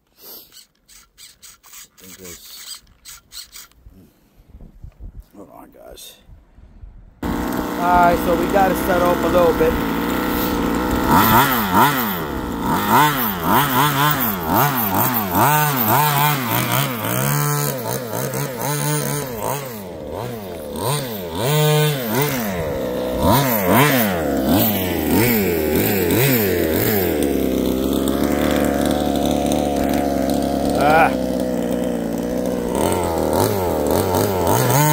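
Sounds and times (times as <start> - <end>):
model buggy engine revving: 0.5 - 3.7, 7.2 - 34.9.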